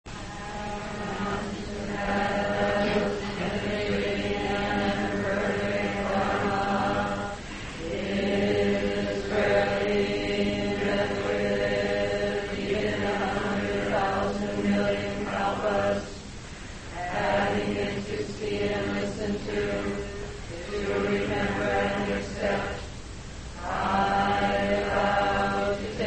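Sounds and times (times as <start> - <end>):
slow devotional chanting: 0.1 - 26.0.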